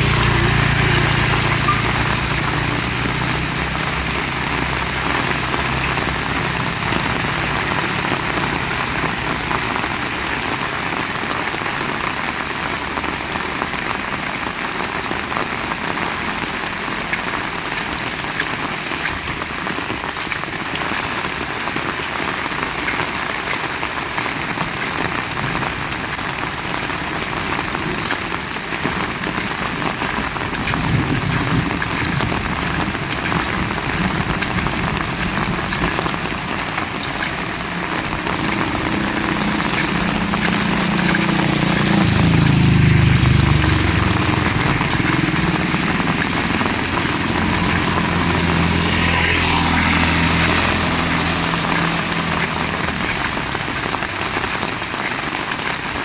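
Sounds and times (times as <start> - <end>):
engine hum: 0.0 - 56.0
heavy rain: 0.0 - 56.0.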